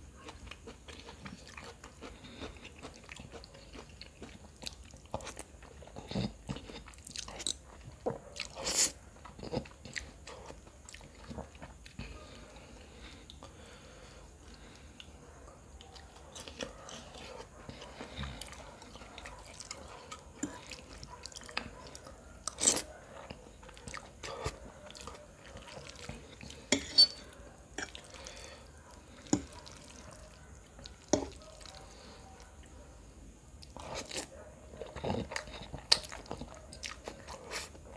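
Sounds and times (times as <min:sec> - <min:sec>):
man chewing noodles: 0:00.0 - 0:32.8, 0:33.6 - 0:37.9.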